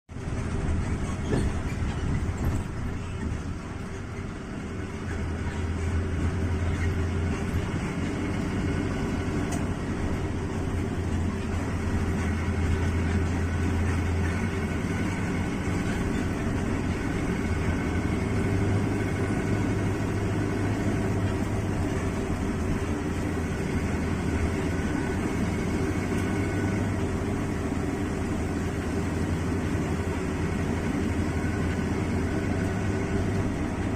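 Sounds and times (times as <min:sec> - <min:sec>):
low engine drone: 0:00.1 - 0:33.9
tyres on wet road: 0:00.1 - 0:33.9.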